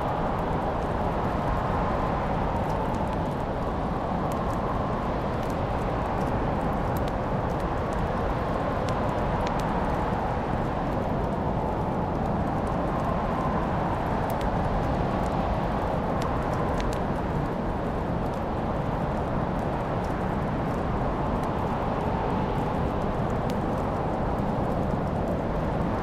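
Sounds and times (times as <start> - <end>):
flames burning: 0.0 - 26.0
fire crackling pops: 0.1 - 21.8, 22.5 - 26.0.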